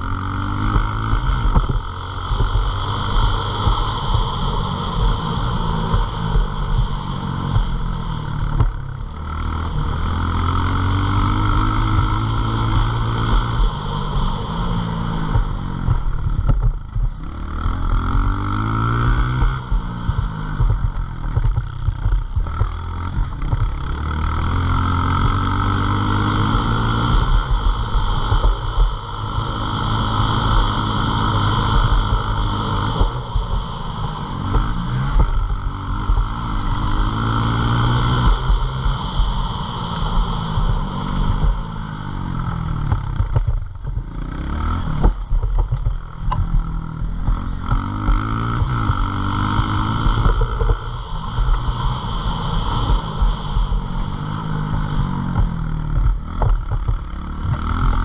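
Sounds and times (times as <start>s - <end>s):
small motorbike engine revving: 0.0s - 58.0s.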